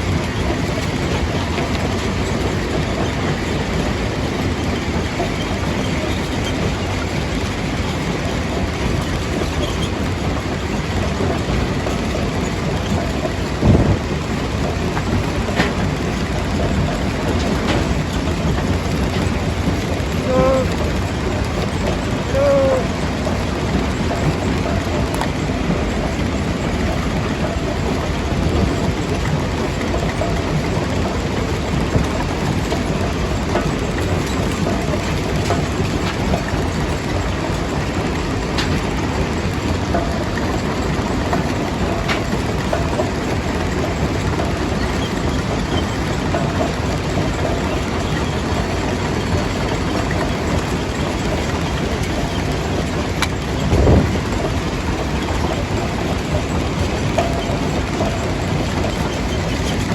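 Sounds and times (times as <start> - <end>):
jaw crusher rumbling: 8.4 - 59.9.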